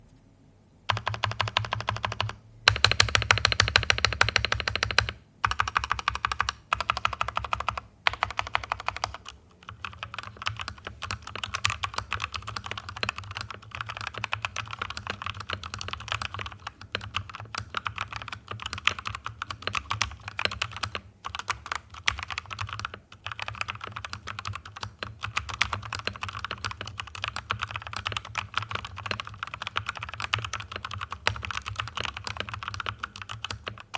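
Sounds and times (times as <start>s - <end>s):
typing on mechanical keyboard: 0.9s - 33.9s.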